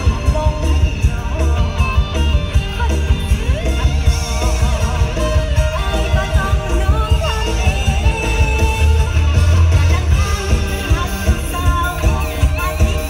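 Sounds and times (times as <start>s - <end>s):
person singing ornamented lines: 0.0s - 13.0s
pounding bass beat: 0.0s - 13.0s.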